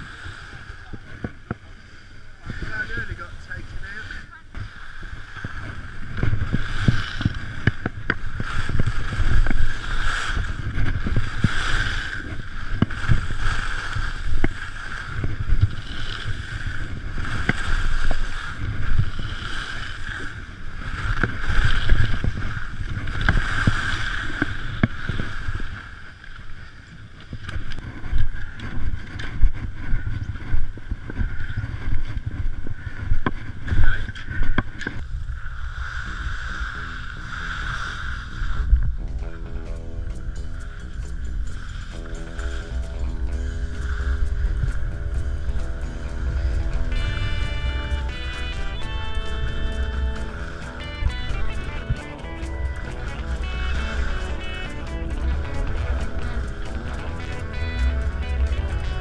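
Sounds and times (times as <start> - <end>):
skis scraping over snow: 0.0 - 59.0
wind rumbling on microphone: 0.0 - 59.0.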